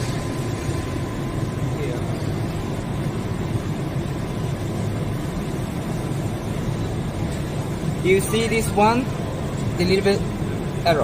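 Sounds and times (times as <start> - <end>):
factory hum and rumble: 0.0 - 11.0.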